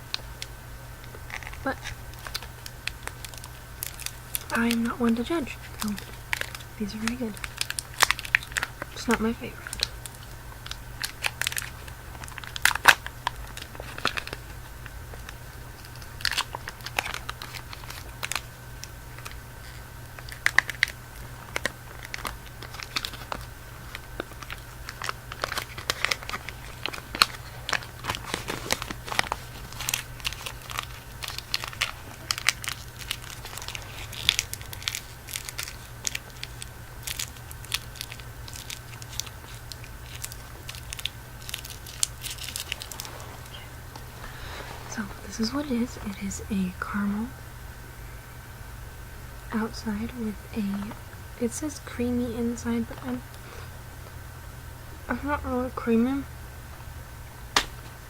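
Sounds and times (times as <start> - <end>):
candy wrapper crinkling and tearing: 0.0 - 47.2.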